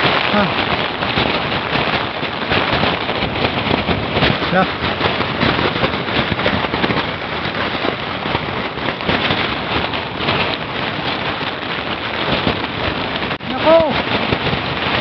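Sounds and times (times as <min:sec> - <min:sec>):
heavy rain on plastic sheet: 0:00.0 - 0:15.0
strong wind: 0:00.0 - 0:15.0.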